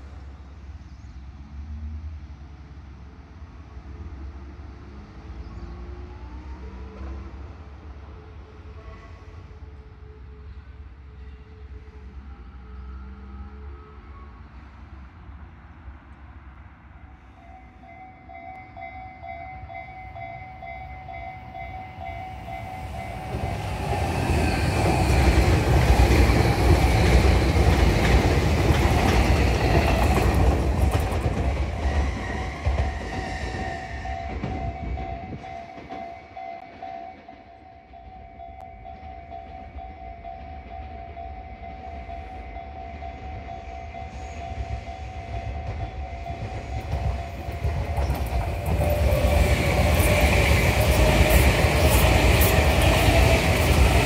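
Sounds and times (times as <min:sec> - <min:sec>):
electric train passing: 0:00.0 - 0:54.0
train approaching: 0:00.0 - 0:54.0.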